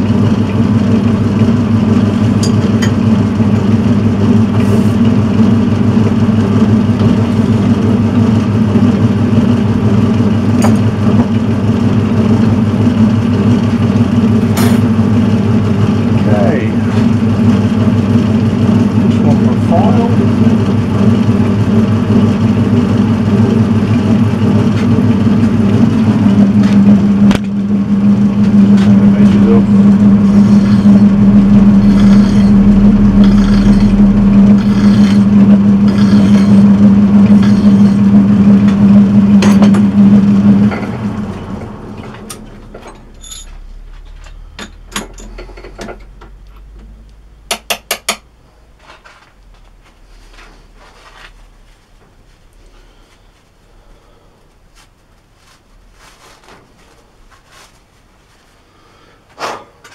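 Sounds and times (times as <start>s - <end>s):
metal lathe humming: 0.0s - 48.6s.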